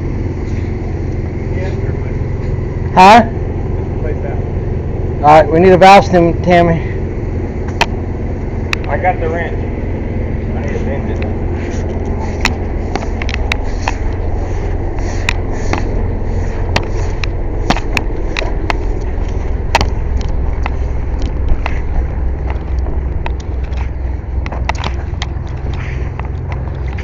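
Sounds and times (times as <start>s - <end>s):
air compressor drone: 0.0s - 27.0s.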